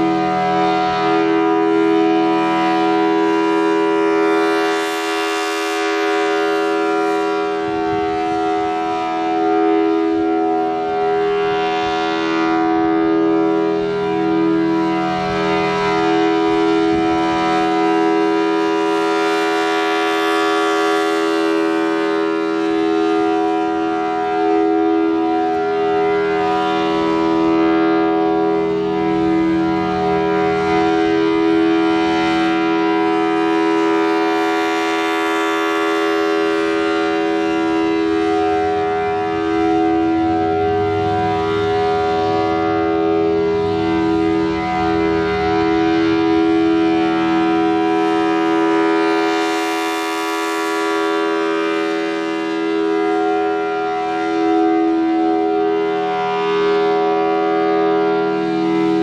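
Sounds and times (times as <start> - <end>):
siren two-note chord: 0.0 - 59.0.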